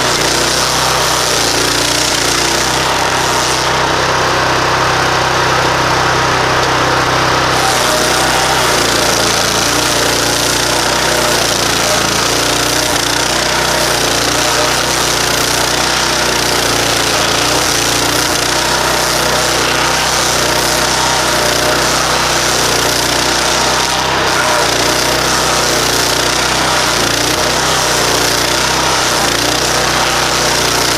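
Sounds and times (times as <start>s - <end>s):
engine drone: 0.0s - 30.9s
stump grinder grinding wood: 0.0s - 30.9s.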